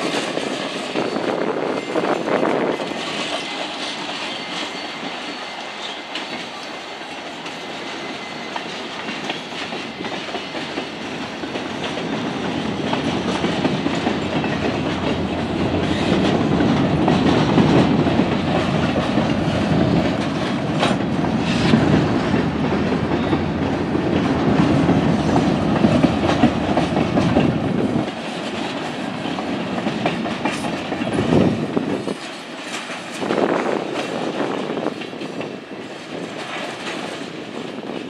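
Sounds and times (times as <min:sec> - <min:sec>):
train wheels clattering on rails: 0:00.0 - 0:38.0.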